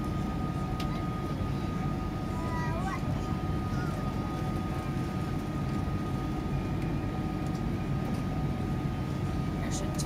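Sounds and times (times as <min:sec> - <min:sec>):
low cabin rumble: 0:00.0 - 0:10.0.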